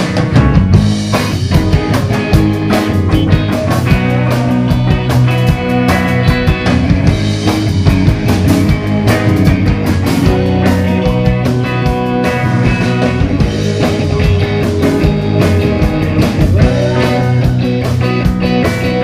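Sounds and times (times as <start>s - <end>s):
drum kit beat: 0.0s - 19.0s
electric guitar chords: 0.0s - 19.0s.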